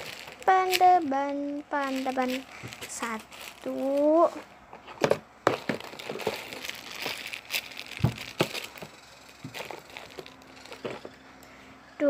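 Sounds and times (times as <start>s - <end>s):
plastic wrapping crinkling: 0.0s - 11.2s.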